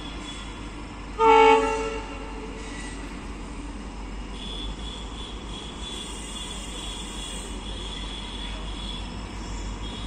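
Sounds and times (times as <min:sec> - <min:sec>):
diesel locomotive rumble: 0:00.0 - 0:10.0.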